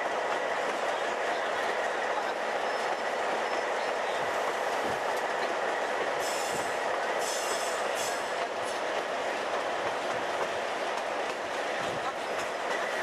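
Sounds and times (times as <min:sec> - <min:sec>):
diesel train engine and rolling wheels: 0:00.0 - 0:13.0.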